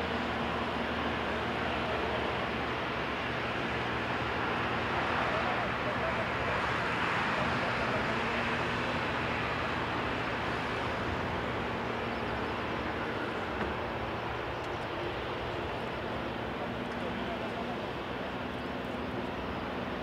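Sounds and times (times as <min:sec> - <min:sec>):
jet engines roaring at takeoff: 0:00.0 - 0:20.0.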